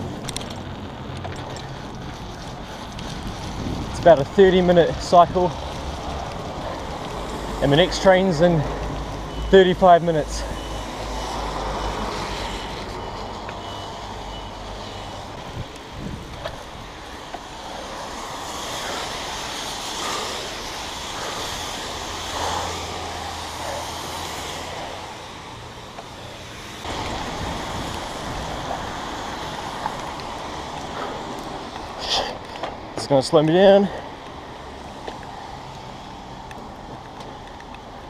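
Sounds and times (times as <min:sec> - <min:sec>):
wind rushing over microphone: 0:00.0 - 0:09.5, 0:10.8 - 0:25.9, 0:26.7 - 0:33.2.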